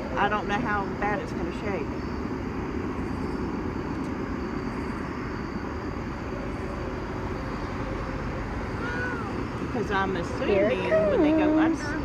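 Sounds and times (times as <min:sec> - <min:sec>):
distant train rumbling: 0:00.0 - 0:12.0.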